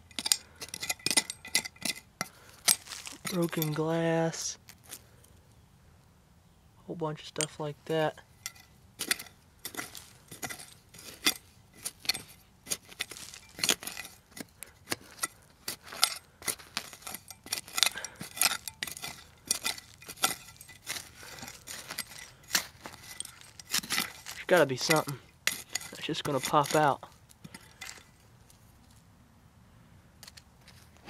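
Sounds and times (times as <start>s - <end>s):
metal tool scraping into dirt: 0.0s - 5.3s, 7.3s - 29.0s, 30.2s - 31.0s.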